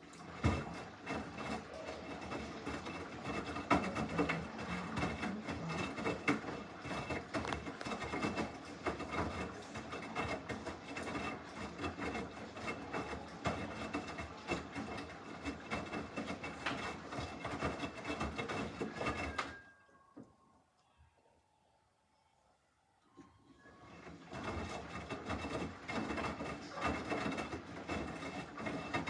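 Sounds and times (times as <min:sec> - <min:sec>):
washing machine drum churning: 0:00.0 - 0:19.5, 0:23.8 - 0:29.0.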